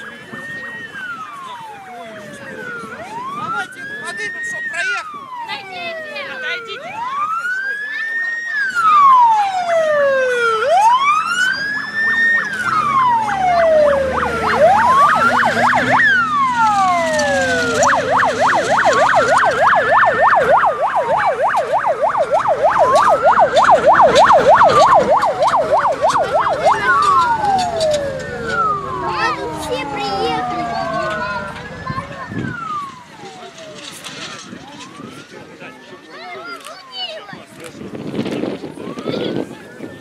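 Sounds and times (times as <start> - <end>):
emergency vehicle siren: 0.0 - 40.0.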